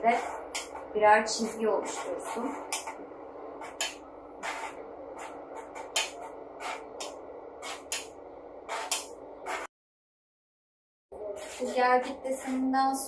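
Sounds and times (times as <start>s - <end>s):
steady background hum: 0.0s - 9.7s, 11.1s - 13.0s.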